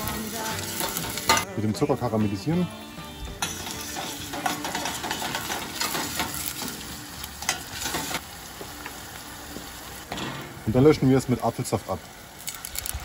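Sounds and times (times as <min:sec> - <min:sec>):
onions sizzling in butter: 0:00.0 - 0:13.0.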